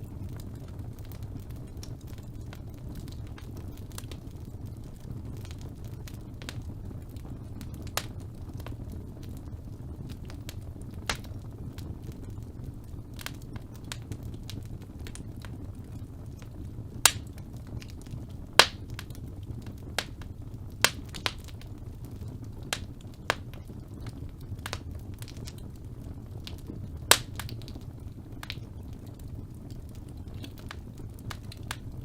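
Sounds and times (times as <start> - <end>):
fire crackles and pops: 0.0 - 32.0
fire flame rumble: 0.0 - 32.0.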